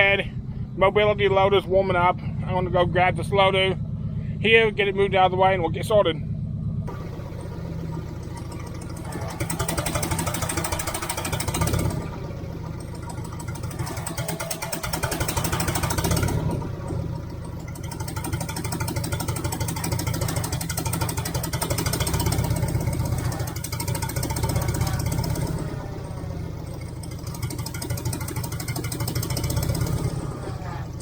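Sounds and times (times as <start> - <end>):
loader engine revving: 0.0 - 31.0.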